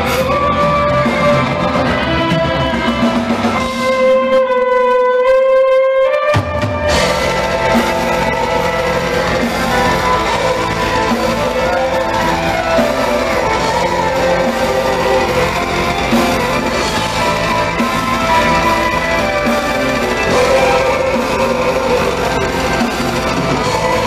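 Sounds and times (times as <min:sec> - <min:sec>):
metal band playing loudly: 0:00.0 - 0:05.5, 0:06.1 - 0:24.0.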